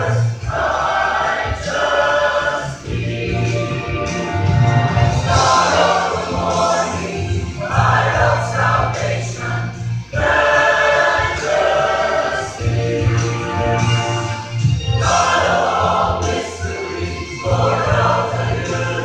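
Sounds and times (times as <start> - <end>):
mixed choir singing: 0.0 - 19.0.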